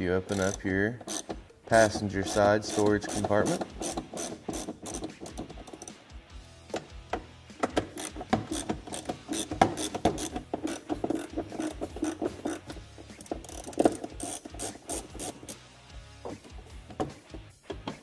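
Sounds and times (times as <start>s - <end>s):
background music: 0.0s - 18.0s
ratcheting screwdriver clicking: 0.3s - 6.0s, 6.7s - 15.6s.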